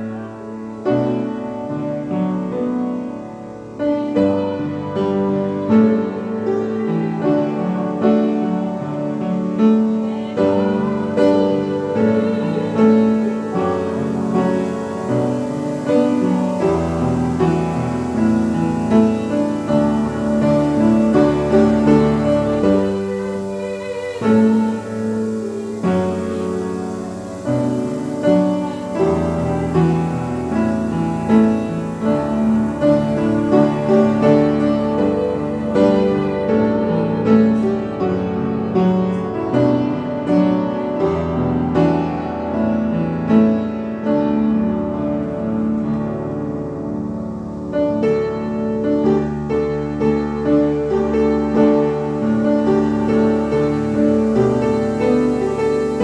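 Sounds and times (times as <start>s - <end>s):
piano playing slow chords: 0.0s - 56.0s.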